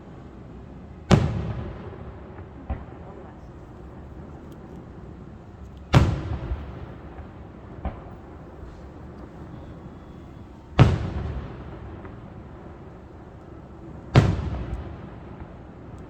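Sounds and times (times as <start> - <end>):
firework shells booming: 1.1 - 16.0.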